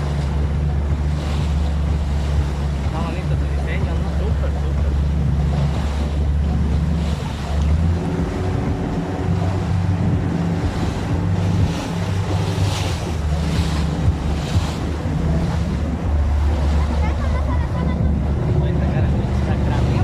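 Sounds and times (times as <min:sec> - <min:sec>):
boat engine humming: 0:00.0 - 0:20.0
water rushing past hull: 0:00.0 - 0:20.0
wind buffeting microphone: 0:00.0 - 0:20.0.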